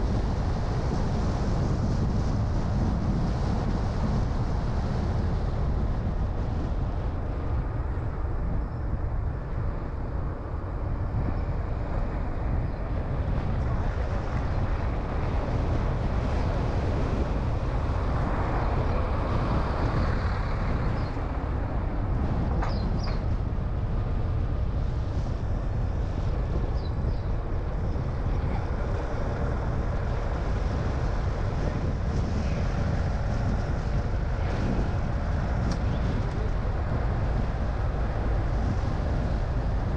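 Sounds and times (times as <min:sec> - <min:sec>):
car engine rumble: 0:00.0 - 0:39.9
tyre road noise: 0:00.0 - 0:39.9.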